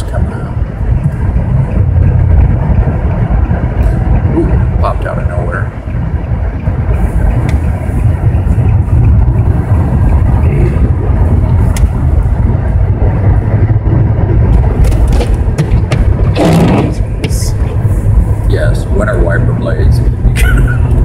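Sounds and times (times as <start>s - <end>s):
car driving on snowy road: 0.0s - 21.0s
rush of noise: 0.0s - 21.0s.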